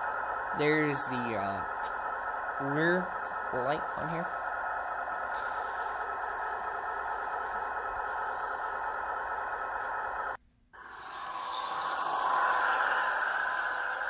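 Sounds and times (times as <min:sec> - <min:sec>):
diesel engine sound through small speaker: 0:00.0 - 0:14.0.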